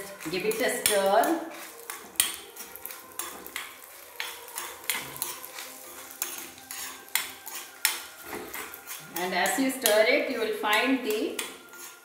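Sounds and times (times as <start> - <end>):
spoon scraping and clinking in pan: 0.0 - 10.1, 10.7 - 12.0.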